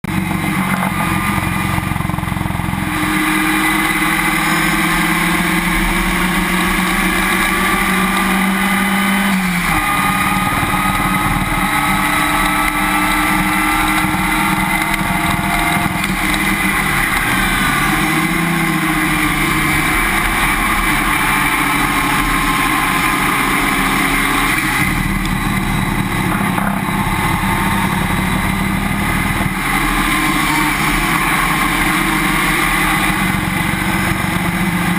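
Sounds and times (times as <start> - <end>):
race car engine drone: 0.0 - 34.9
road noise: 0.0 - 34.9.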